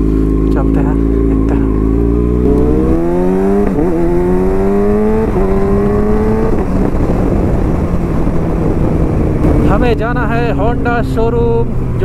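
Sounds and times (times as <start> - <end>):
motorcycle engine accelerating: 0.0 - 12.0
steady rushing noise: 0.0 - 12.0.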